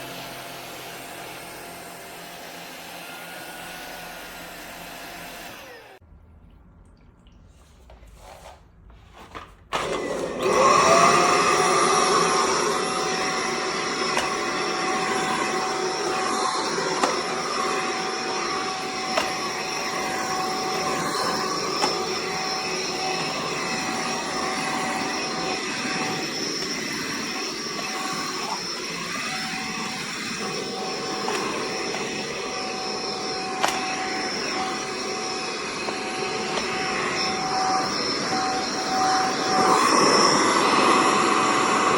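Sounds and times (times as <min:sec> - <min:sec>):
stick vacuum motor whining: 0:00.0 - 0:06.0, 0:09.7 - 0:41.9.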